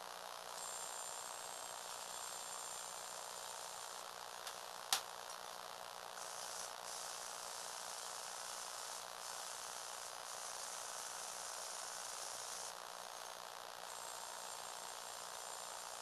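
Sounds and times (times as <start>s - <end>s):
electric motors whirring: 0.0s - 16.0s.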